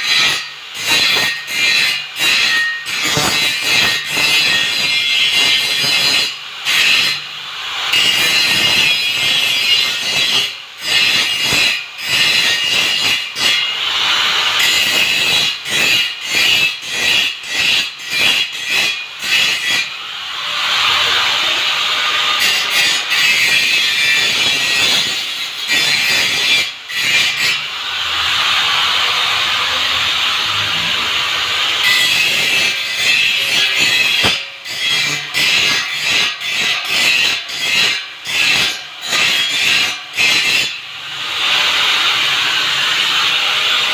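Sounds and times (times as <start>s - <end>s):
angle grinder grinding steel: 0.0s - 43.9s.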